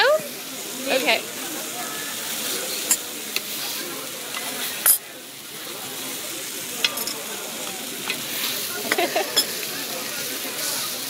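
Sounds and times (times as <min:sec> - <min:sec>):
batter sizzling on a griddle: 0:00.0 - 0:11.0.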